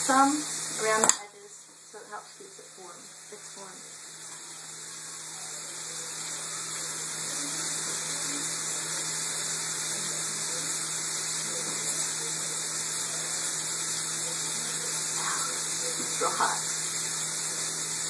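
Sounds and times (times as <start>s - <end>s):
bacon sizzling in a frying pan: 0.0s - 18.0s.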